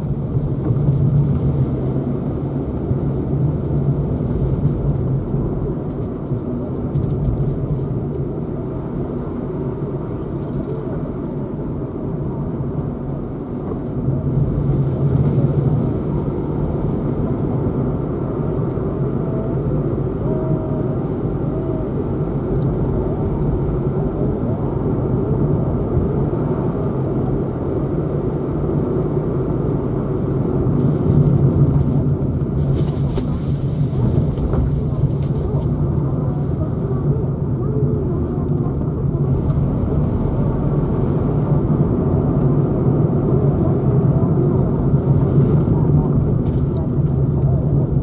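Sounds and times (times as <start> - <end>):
car engine and tyre rumble: 0.0 - 48.0.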